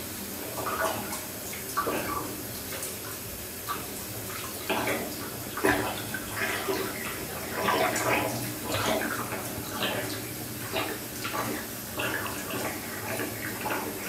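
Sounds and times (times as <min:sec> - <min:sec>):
bath water sloshing and splashing: 0:00.0 - 0:14.0
water running off a leg: 0:00.0 - 0:14.0.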